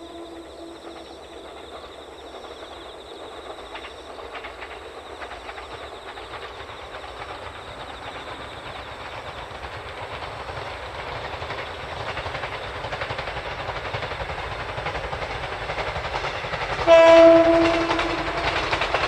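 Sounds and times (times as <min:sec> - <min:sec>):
train wheels clicking on rails: 0:00.0 - 0:19.0.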